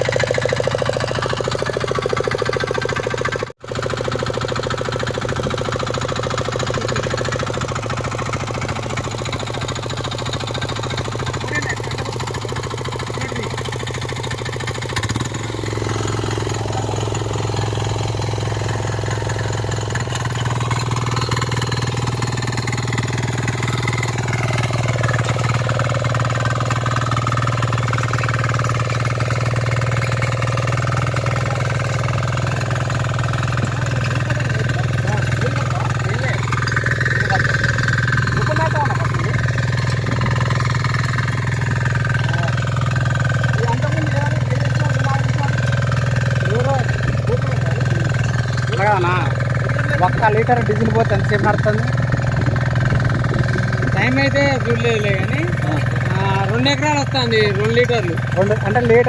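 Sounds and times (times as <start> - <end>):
engine knock: 0.0 - 59.0
small diesel engine running: 0.0 - 59.0.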